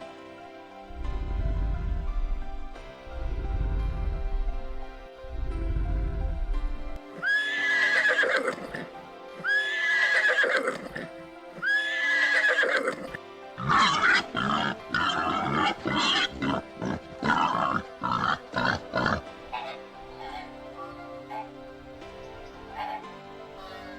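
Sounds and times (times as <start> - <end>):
soft background music: 0.0 - 23.9
animal calling: 1.0 - 23.9.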